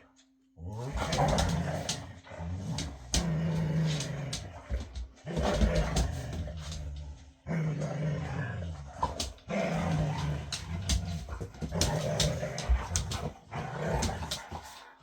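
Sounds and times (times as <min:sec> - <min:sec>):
dogs growling: 0:00.6 - 0:15.0.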